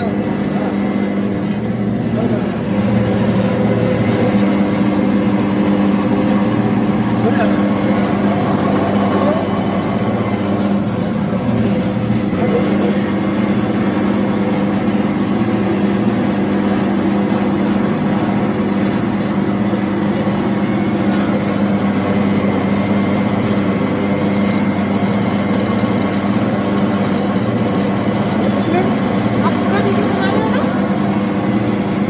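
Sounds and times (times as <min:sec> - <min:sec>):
grinder machine humming: 0:00.0 - 0:32.0.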